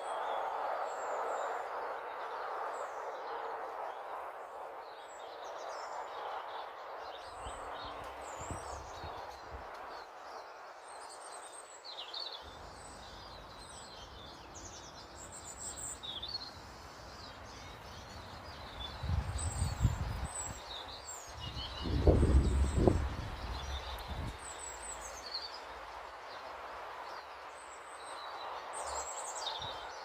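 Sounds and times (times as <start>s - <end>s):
steady outdoor hiss: 0.0s - 30.0s
small birds chirping: 5.0s - 30.0s.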